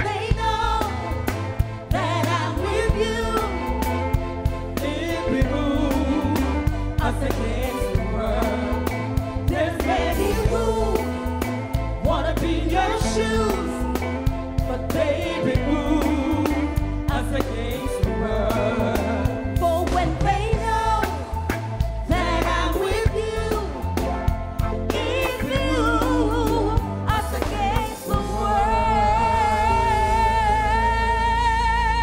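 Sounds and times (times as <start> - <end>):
live reggae band: 0.0 - 32.0
woman singing: 0.0 - 32.0.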